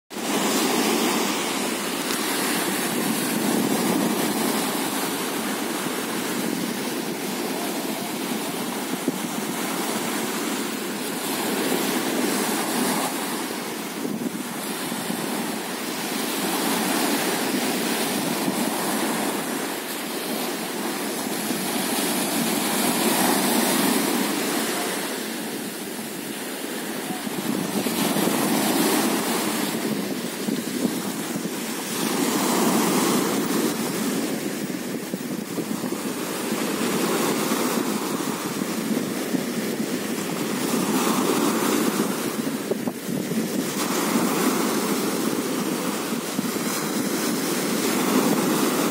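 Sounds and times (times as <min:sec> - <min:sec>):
sea waves breaking on beach: 0:00.1 - 0:48.9.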